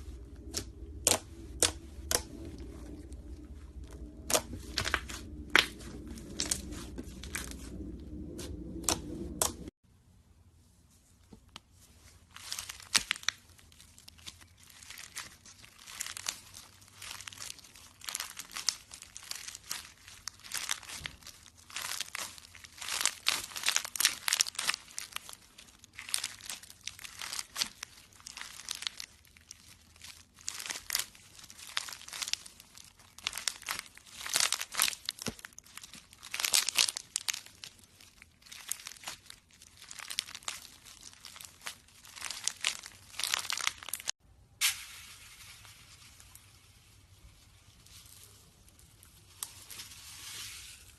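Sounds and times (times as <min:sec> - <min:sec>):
slime crackling and popping: 0:00.1 - 0:09.7, 0:12.3 - 0:44.8
slime squished by hand: 0:00.1 - 0:09.7, 0:12.4 - 0:44.1.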